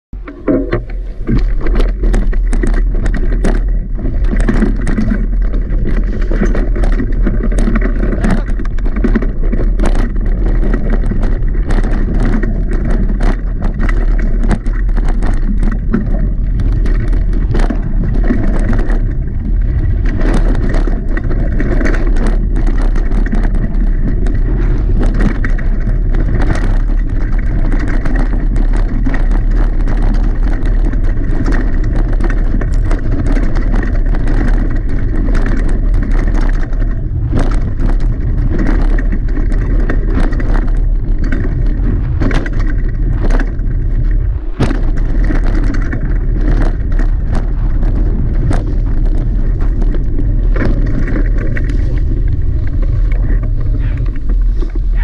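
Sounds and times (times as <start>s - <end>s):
bike clattering over roots: 0.2s - 55.0s
tyres rumbling on dirt: 0.2s - 55.0s.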